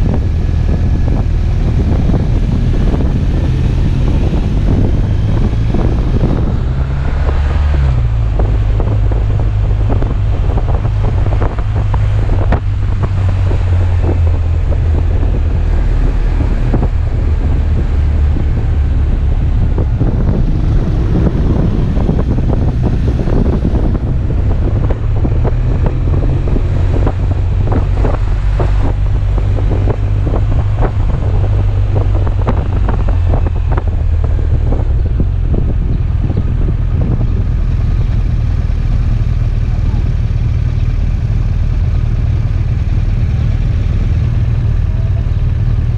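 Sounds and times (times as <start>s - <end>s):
motorcycle engine running: 0.0s - 45.9s
wind buffeting microphone: 0.0s - 45.9s.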